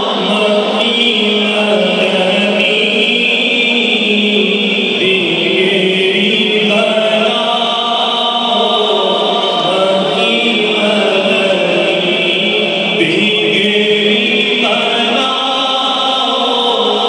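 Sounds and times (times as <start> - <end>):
men chanting in unison: 0.0 - 17.0
person leading chant on microphone: 0.0 - 17.0.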